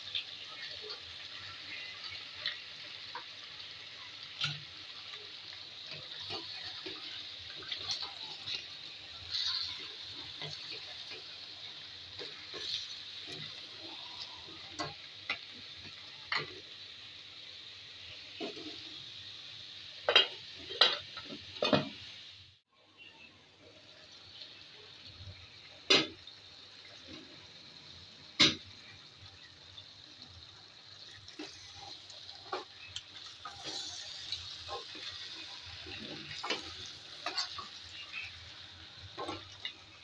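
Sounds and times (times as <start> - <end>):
meat and lentils sizzling in pot: 0.0 - 40.0.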